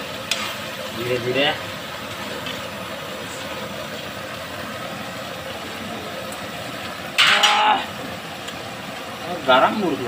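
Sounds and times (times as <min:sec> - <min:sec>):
meat frying in a wok: 0:00.0 - 0:10.0
pressure stove burner roaring: 0:00.0 - 0:10.0.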